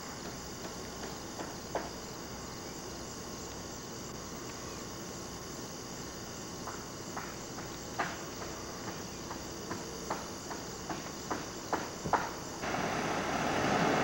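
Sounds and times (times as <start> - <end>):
background hiss: 0.0 - 14.0
insects chirping: 0.0 - 14.0.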